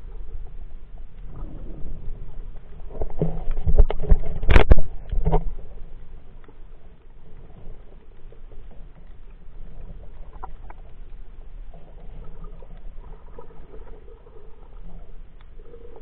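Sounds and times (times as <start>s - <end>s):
underwater murmur of moving water: 0.0s - 16.0s.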